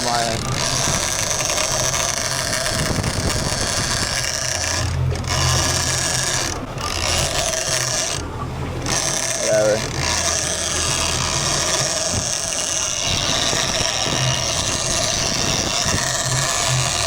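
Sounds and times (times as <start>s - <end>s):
boat engine hum: 0.0s - 17.0s
fishing reel clicking: 0.0s - 17.0s.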